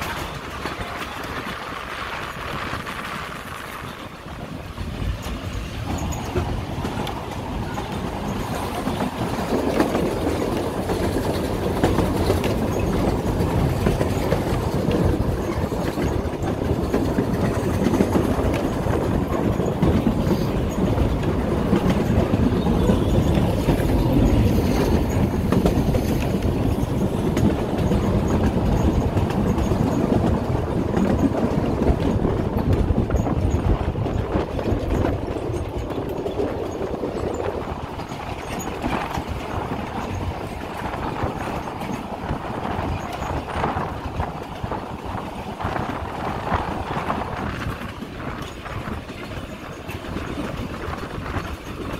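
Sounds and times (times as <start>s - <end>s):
train wheels rattling on rails: 0.0s - 51.9s.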